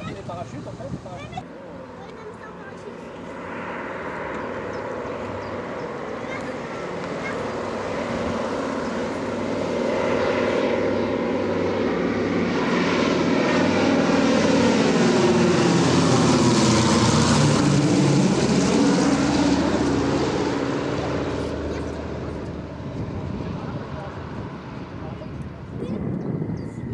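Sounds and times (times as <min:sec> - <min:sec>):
propeller aircraft flying overhead: 0:00.0 - 0:26.9.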